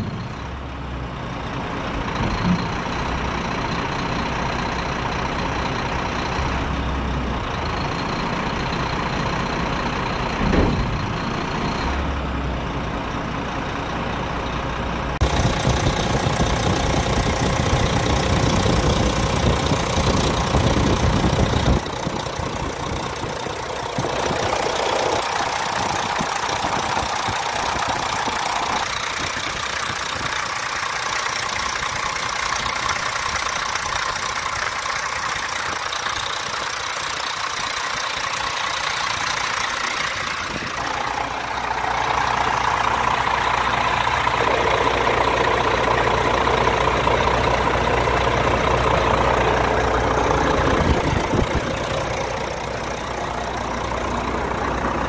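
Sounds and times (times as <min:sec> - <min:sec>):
truck diesel engine idling: 0:00.0 - 0:55.0.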